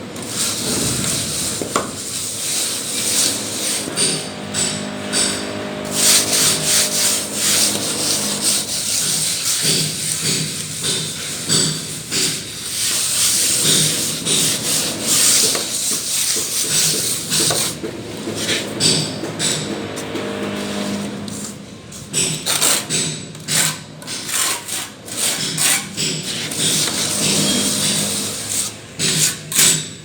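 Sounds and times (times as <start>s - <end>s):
plastering tool scraping wall: 0.0s - 30.0s.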